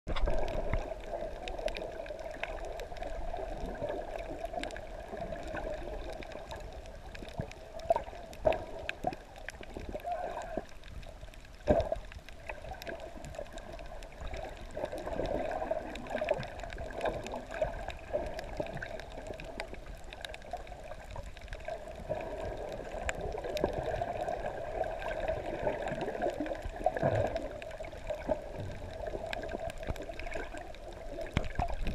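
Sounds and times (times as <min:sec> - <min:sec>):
underwater sloshing and gurgling: 0:00.1 - 0:31.9.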